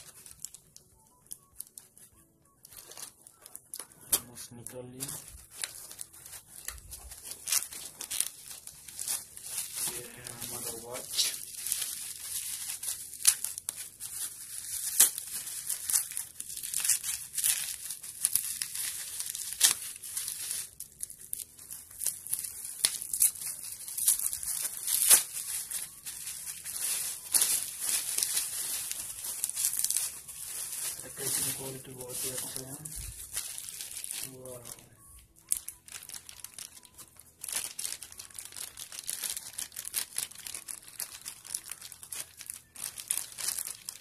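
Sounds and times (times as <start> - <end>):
bubble wrap crinkling: 0.0 - 44.0.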